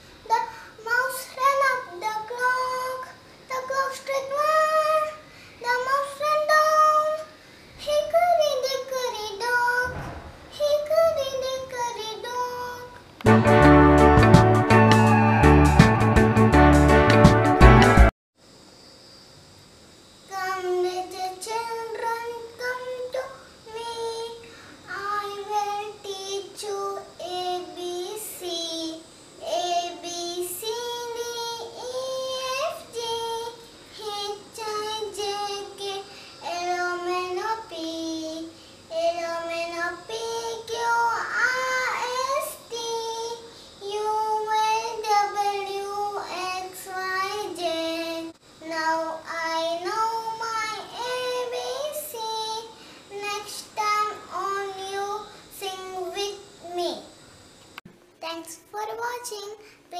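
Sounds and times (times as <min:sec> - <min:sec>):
girl singing unaccompanied: 0:00.0 - 0:13.0, 0:20.2 - 0:57.2, 0:58.2 - 0:59.9.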